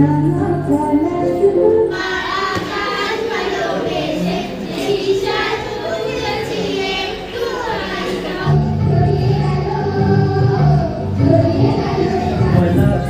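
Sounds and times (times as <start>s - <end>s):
children singing together: 0.0s - 13.0s.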